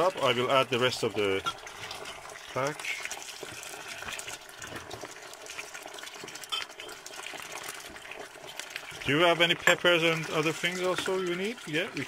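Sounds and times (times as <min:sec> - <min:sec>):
sauce sizzling in frying pan: 0:00.0 - 0:12.0.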